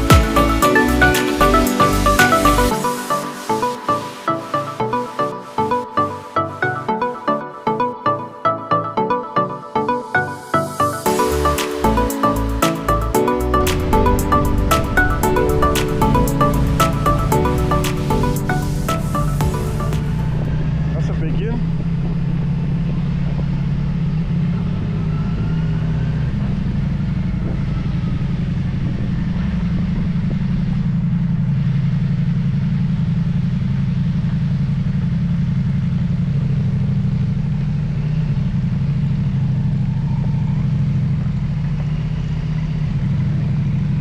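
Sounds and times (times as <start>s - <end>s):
engine droning steadily: 0.0s - 44.0s.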